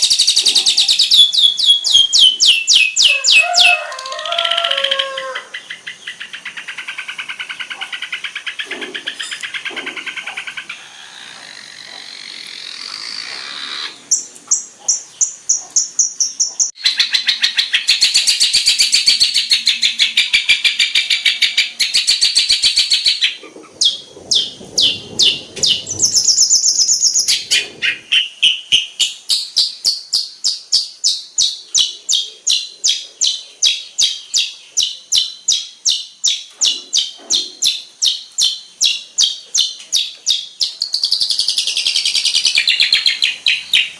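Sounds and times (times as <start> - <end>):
bird singing trills and chatter: 0.0 - 43.9.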